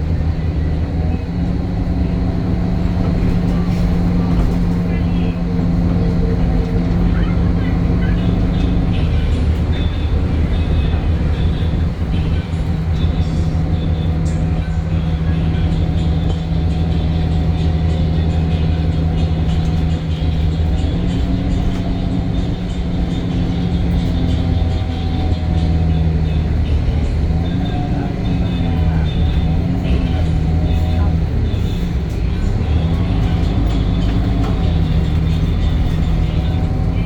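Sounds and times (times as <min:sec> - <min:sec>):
bus diesel engine running: 0:00.0 - 0:37.0.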